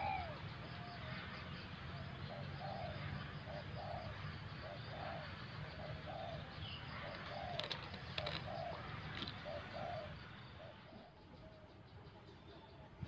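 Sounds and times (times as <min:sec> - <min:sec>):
dove cooing: 0:00.0 - 0:01.2, 0:02.0 - 0:13.0.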